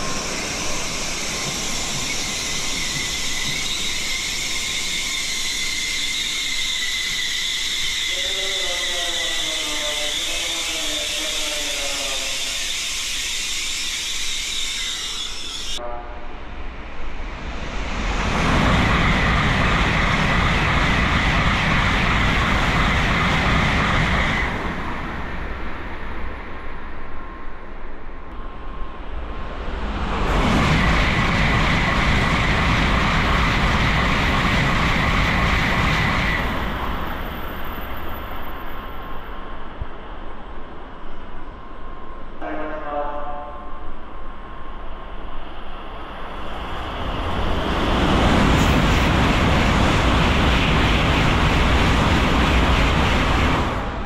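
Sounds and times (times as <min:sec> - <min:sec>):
high-speed train rushing roar: 0:00.0 - 0:54.0.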